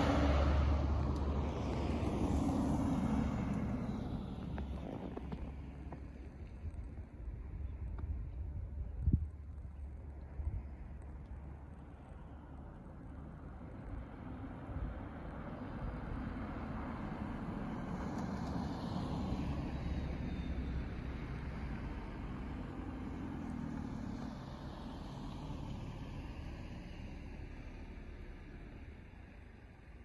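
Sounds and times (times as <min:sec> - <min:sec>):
car driving past on snow: 0:00.0 - 0:07.2, 0:09.5 - 0:30.0.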